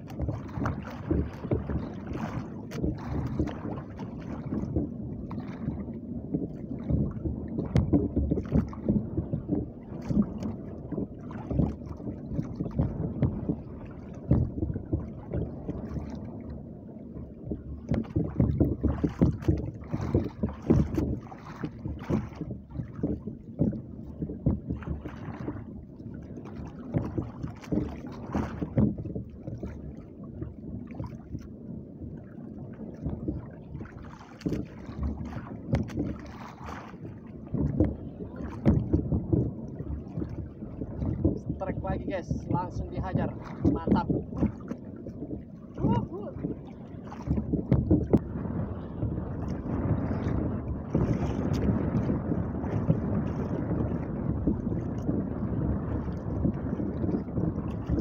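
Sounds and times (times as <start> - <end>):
water lapping against boat hull: 0.0 - 58.0
wind rumble on microphone: 0.0 - 58.0.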